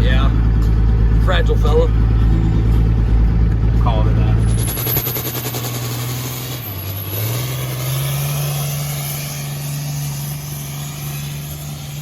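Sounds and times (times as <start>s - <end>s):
diesel truck engine running: 0.0s - 12.0s
turbo whine: 1.1s - 12.0s.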